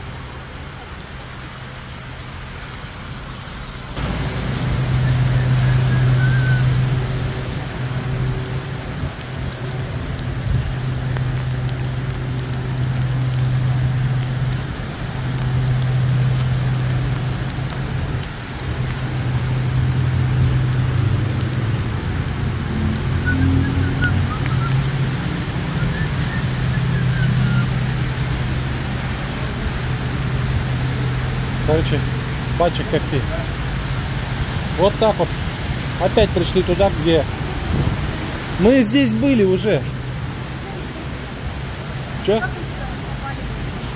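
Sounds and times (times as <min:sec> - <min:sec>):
rain on wet pavement: 0:00.0 - 0:43.9.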